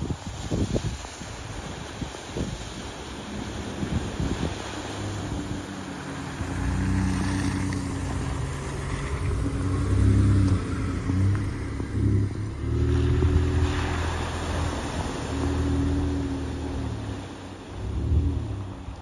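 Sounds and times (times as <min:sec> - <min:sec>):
truck driving through water: 0:00.0 - 0:19.0
truck engine revving: 0:03.0 - 0:19.0.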